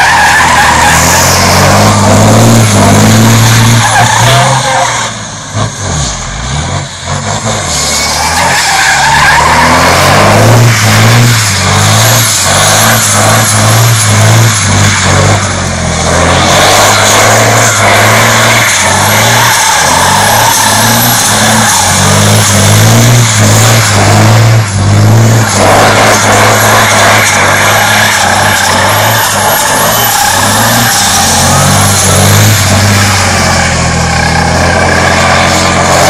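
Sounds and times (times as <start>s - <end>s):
diesel truck engine revving: 0.0s - 36.0s
tyres squealing on asphalt: 0.0s - 36.0s.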